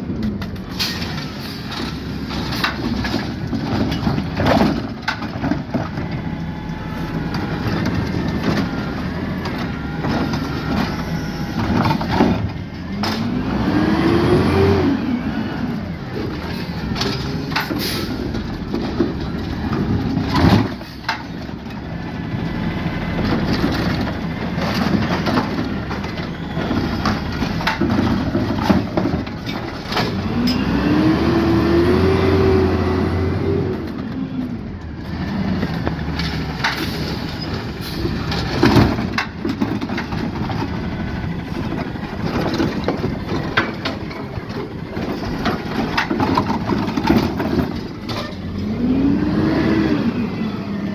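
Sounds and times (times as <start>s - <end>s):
garbage truck engine running: 0.0s - 50.9s.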